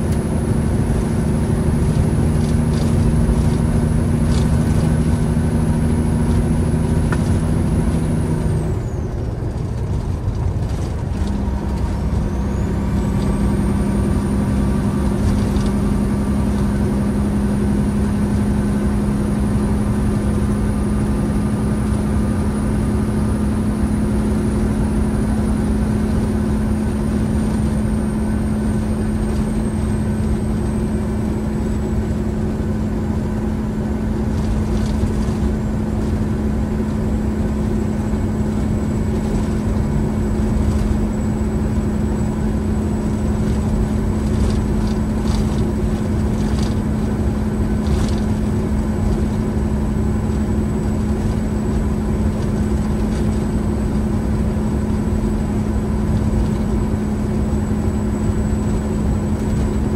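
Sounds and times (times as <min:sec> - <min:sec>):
road noise: 0:00.0 - 0:59.9
truck diesel engine droning: 0:00.0 - 0:59.9.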